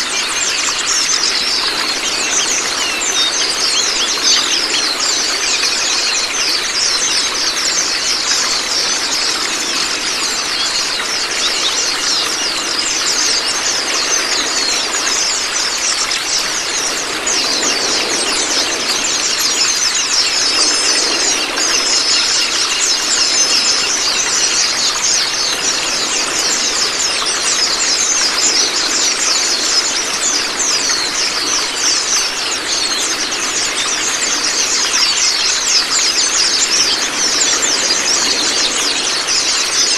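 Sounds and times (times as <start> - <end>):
running water: 0.0 - 39.9
songbird chirps and twitters: 0.0 - 39.9.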